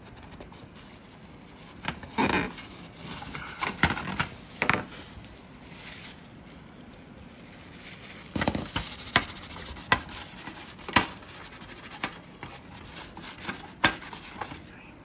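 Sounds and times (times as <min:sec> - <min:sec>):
cloth scrubbing plastic: 0:00.0 - 0:14.6.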